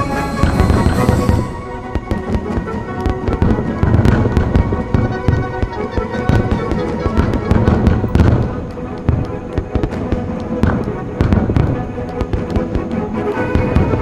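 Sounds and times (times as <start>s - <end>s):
fireworks bursting and crackling: 0.0s - 14.0s
music with held notes: 0.0s - 14.0s.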